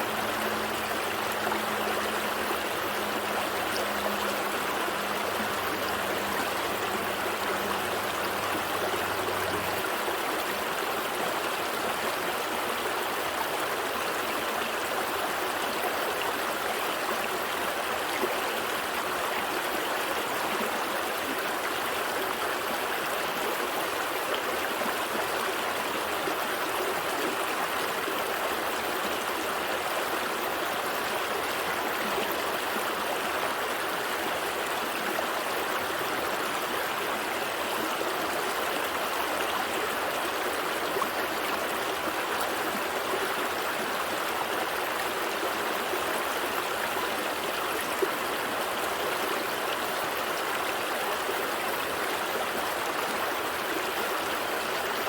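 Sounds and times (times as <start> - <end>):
stream gurgling over rocks: 0.0 - 55.0.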